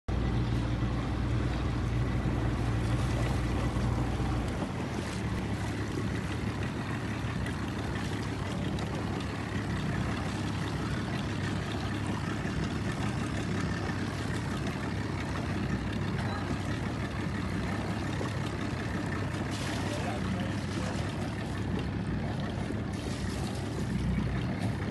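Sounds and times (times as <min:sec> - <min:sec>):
boat motor running: 0:00.1 - 0:24.9
water around boat hull: 0:00.1 - 0:24.9.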